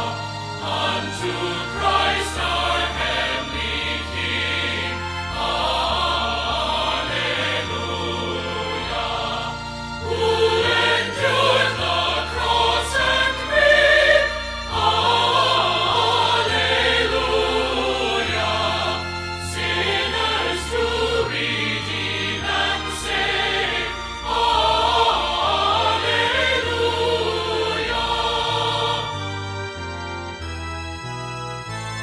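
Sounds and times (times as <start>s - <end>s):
choir singing with instruments: 0.0s - 30.4s.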